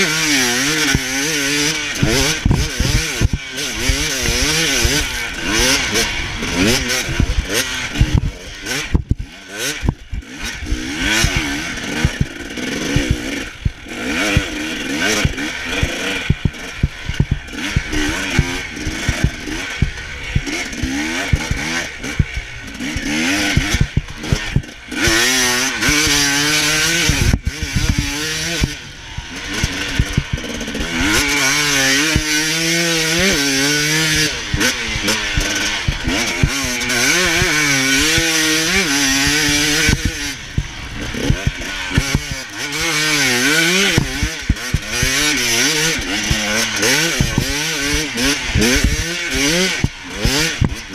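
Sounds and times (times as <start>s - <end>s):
motocross bike engine revving: 0.0s - 50.9s.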